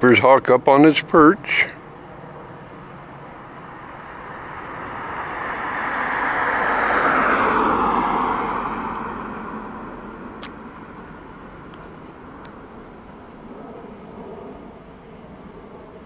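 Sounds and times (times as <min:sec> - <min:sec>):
vehicle passing by: 0:01.5 - 0:16.0.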